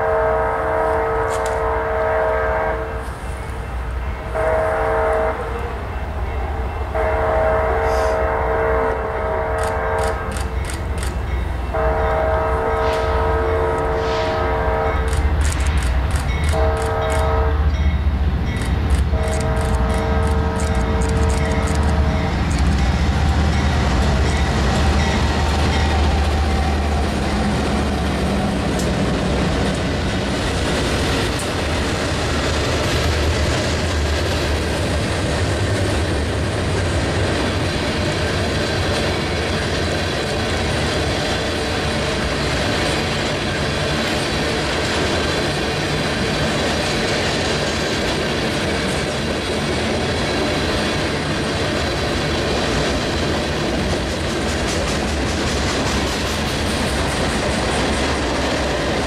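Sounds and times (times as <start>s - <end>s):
locomotive engines droning: 0.0s - 59.0s
train wheels rumbling on rails: 0.0s - 59.0s.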